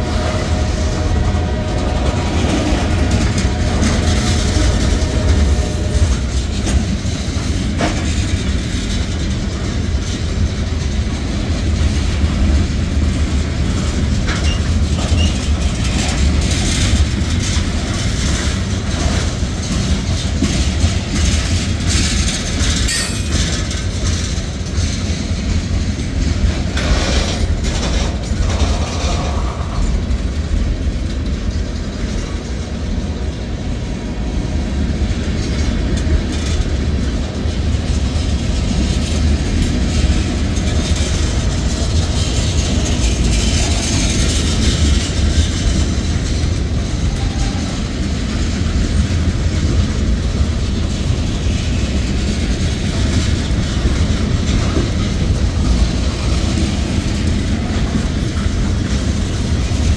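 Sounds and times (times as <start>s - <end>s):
train wheels rumbling on rails: 0.0s - 59.9s
wheels clacking over track: 0.0s - 59.9s.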